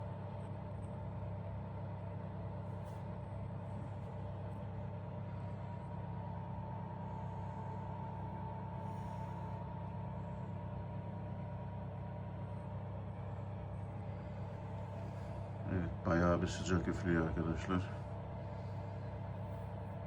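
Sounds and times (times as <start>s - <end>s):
fan heater humming with whine: 0.0s - 20.0s.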